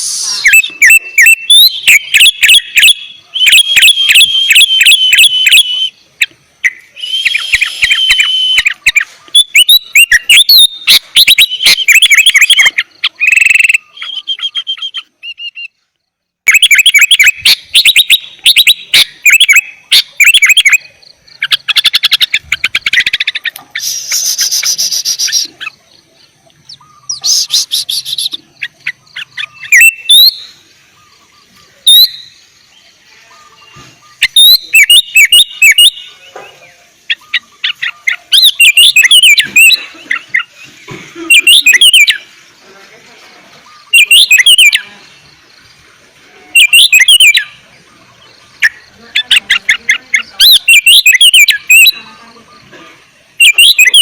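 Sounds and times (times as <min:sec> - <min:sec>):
bird singing chirps and whistles: 0:00.0 - 0:15.8, 0:16.5 - 0:25.5, 0:26.6 - 0:42.3, 0:43.6 - 0:45.3, 0:46.6 - 0:49.0, 0:50.2 - 0:52.7, 0:53.4 - 0:54.0.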